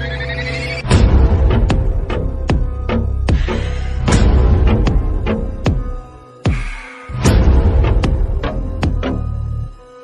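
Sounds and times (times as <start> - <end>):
dramatic electronic music: 0.0 - 10.0.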